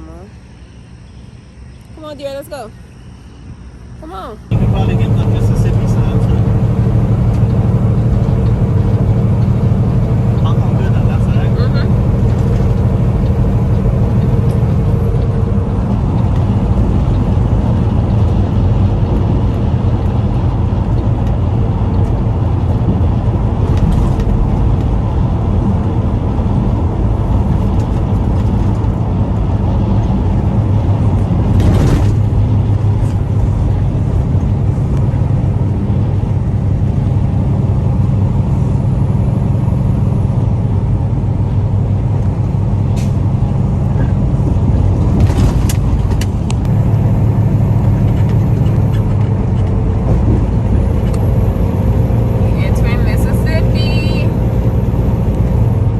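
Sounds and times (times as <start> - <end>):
truck engine and road rumble: 0.0 - 55.9.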